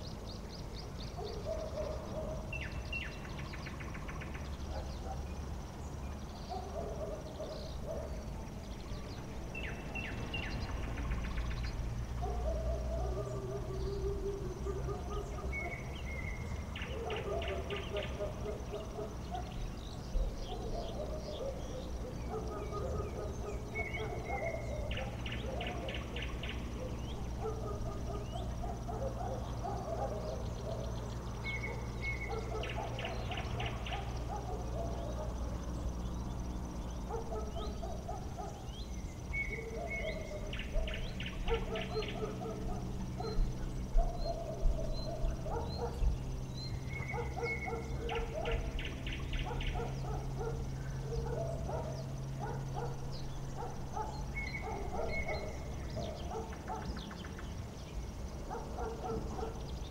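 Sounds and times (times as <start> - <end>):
high insect trill: 0.0 - 59.9.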